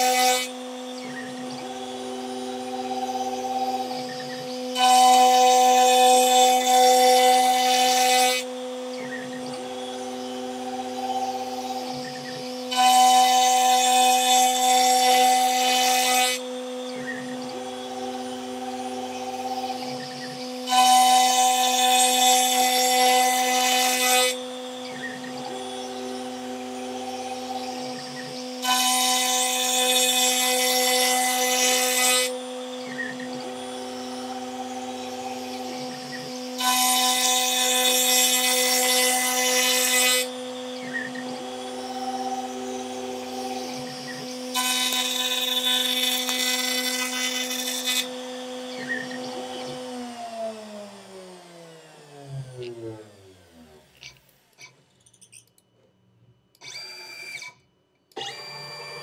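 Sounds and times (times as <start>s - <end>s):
router spindle cutting wood: 0.0s - 54.8s, 56.6s - 59.0s
faint motor whine: 0.0s - 59.0s.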